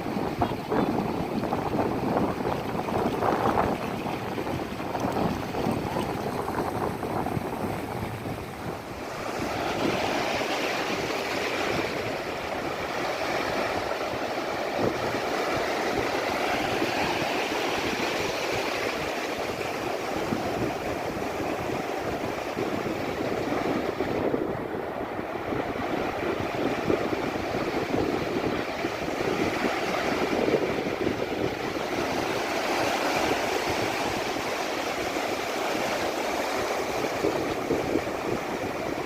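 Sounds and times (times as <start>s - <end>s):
sea waves breaking on beach: 0.0s - 39.0s.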